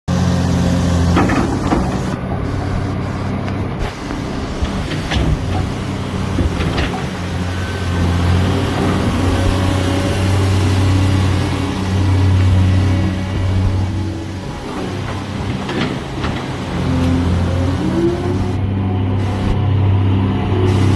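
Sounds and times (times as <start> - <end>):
excavator diesel engine droning: 0.1 - 20.9.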